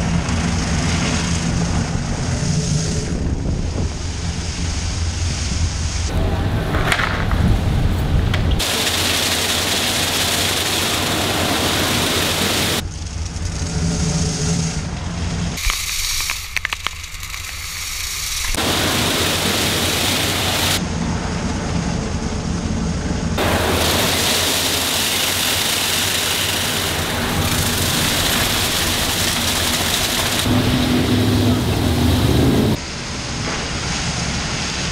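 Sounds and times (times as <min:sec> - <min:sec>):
low machine hum: 0:00.0 - 0:15.6, 0:18.6 - 0:34.6
water spray and rotating brushes: 0:00.0 - 0:20.8, 0:23.3 - 0:34.9.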